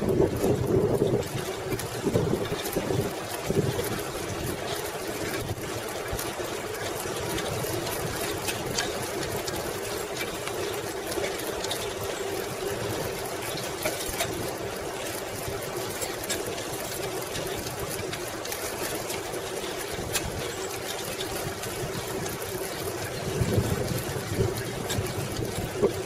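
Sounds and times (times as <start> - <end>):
bicycle tyres whirring: 0.0 - 26.0
small clicks and rattles: 0.0 - 26.0.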